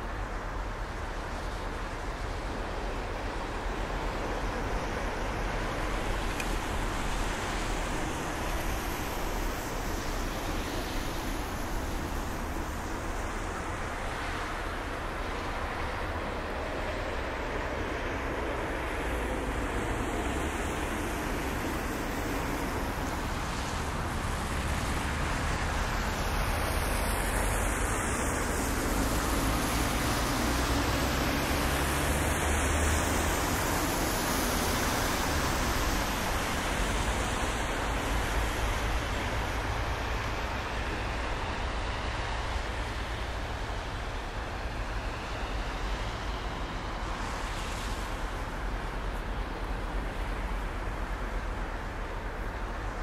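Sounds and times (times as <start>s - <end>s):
distant road traffic: 0.0s - 53.0s.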